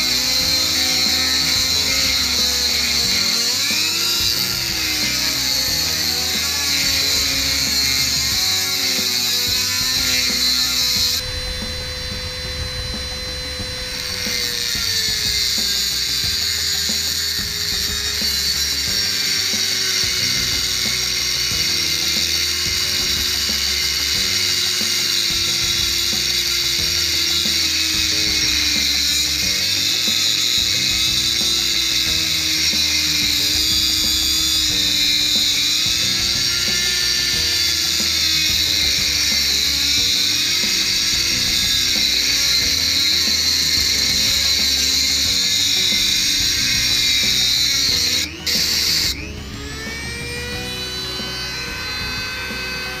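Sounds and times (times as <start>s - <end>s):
rotary tool grinding steel: 0.0s - 53.0s.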